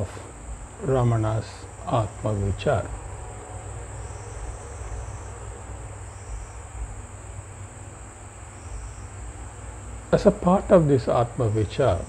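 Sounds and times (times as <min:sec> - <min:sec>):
insects chirring: 0:00.0 - 0:12.0
softer insect call: 0:00.0 - 0:12.0.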